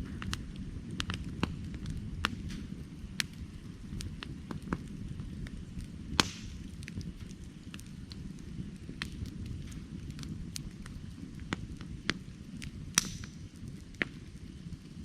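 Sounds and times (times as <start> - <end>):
firewood crackling and popping: 0.0 - 15.0
low fire rumble: 0.0 - 15.0.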